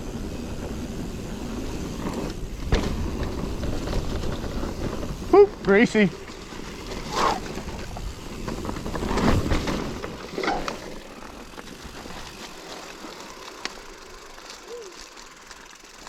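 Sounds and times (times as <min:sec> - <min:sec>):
bike drivetrain rattle: 0:00.0 - 0:16.0
bike tyres on muddy trail: 0:00.0 - 0:16.0
bike clicks: 0:00.1 - 0:16.0.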